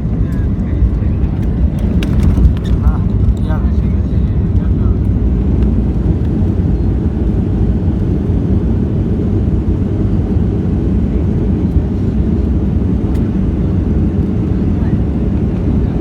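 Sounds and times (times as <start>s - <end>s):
airliner cabin engine roar: 0.0s - 16.0s.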